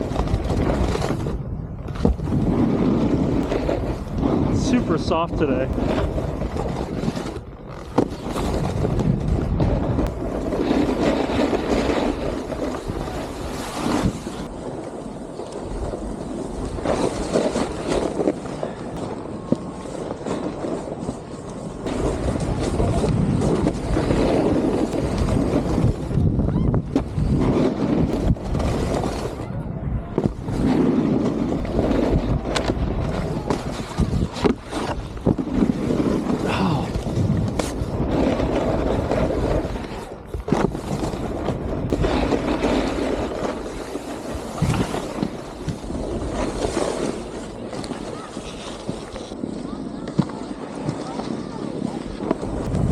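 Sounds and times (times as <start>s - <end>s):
snowboard scraping over snow: 0.0s - 52.9s
wind rushing over microphone: 0.0s - 52.9s.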